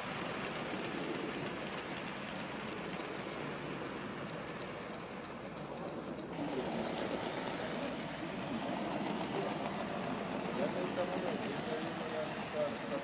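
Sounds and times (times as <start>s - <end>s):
model train rolling hum: 0.0s - 13.0s.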